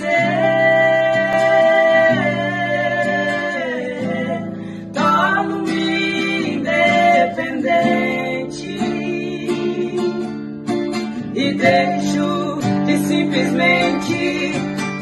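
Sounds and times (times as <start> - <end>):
woman singing worship song: 0.0 - 10.3, 11.2 - 15.0
strummed acoustic guitar: 0.0 - 15.0.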